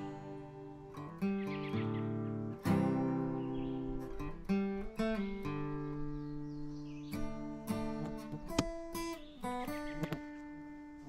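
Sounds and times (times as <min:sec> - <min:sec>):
acoustic guitar plucked and strummed: 0:00.0 - 0:11.0.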